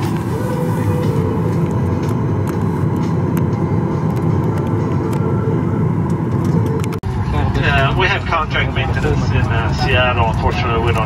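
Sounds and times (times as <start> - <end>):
aircraft cabin air-conditioning hum: 0.0 - 11.0.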